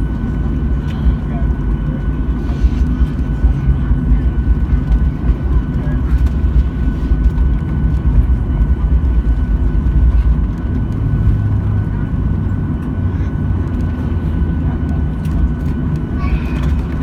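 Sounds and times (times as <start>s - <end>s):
jet engine rumble in cabin: 0.0s - 17.0s
thin steady whine: 0.0s - 17.0s.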